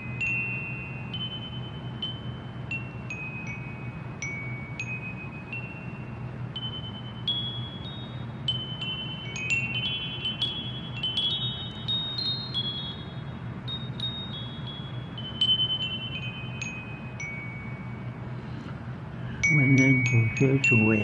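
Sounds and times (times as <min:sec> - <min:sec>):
wind chimes ringing: 0:00.0 - 0:18.6, 0:19.3 - 0:21.0
steady low hum: 0:00.0 - 0:21.0.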